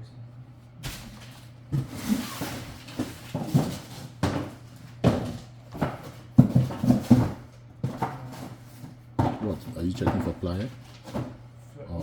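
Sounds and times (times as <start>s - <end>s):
rummaging knocks and rustling: 0.8s - 11.4s.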